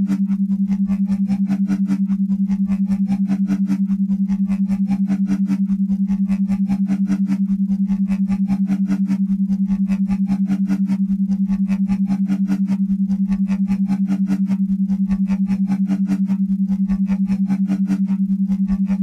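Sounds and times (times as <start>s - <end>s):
low pulsing tone: 0.0s - 19.0s.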